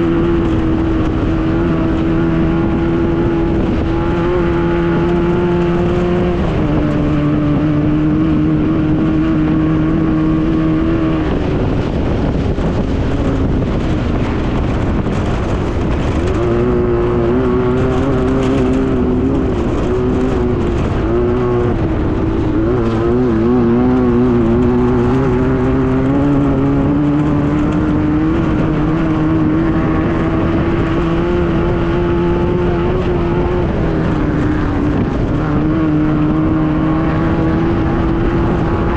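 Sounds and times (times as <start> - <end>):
buggy engine running hard: 0.0 - 38.9
constant noisy rush: 0.0 - 38.9.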